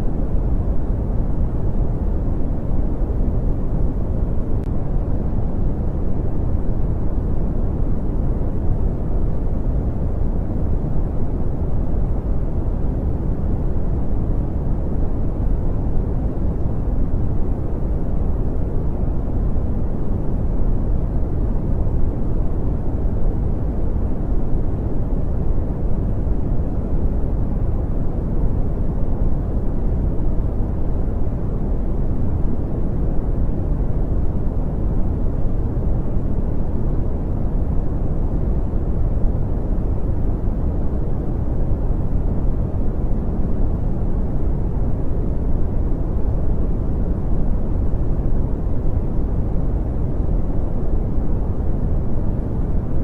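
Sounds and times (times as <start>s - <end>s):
deep rumbling brown noise: 0.0s - 53.0s.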